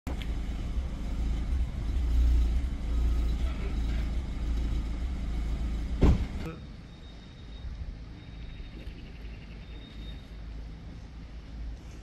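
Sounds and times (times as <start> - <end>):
low uneven rumble: 0.1 - 12.0.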